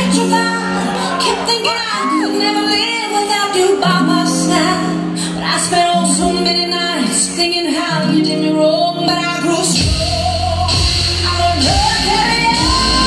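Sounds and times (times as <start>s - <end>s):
pop dance music over sound system: 0.0s - 13.0s
woman singing: 0.0s - 13.0s.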